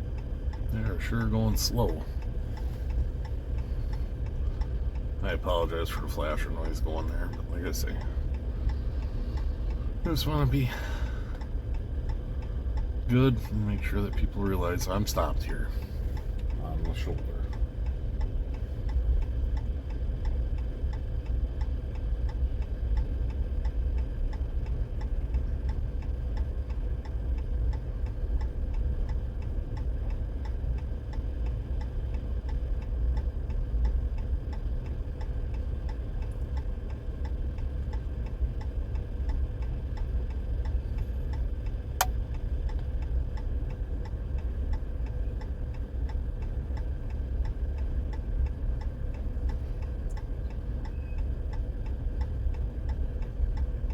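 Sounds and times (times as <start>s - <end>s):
hazard flasher relay ticking: 0.0s - 53.9s
low rumble: 0.0s - 53.9s.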